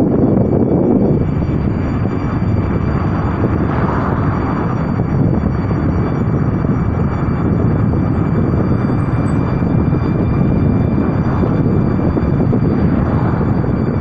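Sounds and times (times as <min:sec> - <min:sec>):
car road noise drone: 0:00.0 - 0:14.0.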